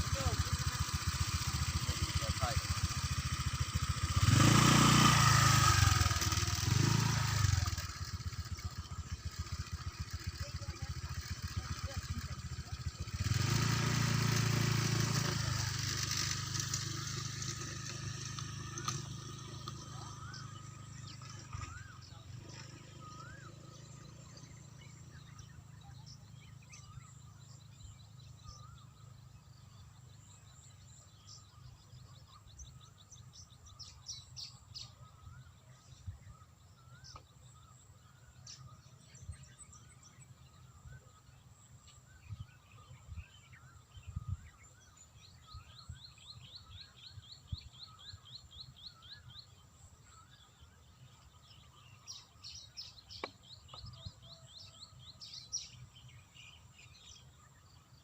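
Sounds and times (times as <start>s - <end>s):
bird trill: 0.0s - 58.0s
small birds chirping: 0.0s - 58.0s.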